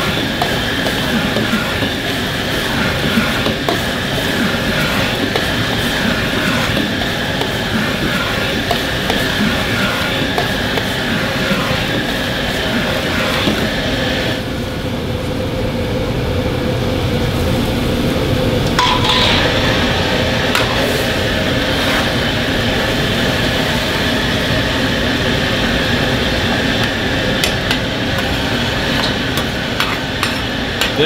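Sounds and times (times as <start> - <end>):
sauce cooking in a wok: 0.0 - 14.6, 18.6 - 31.0
stove range hum: 0.0 - 31.0.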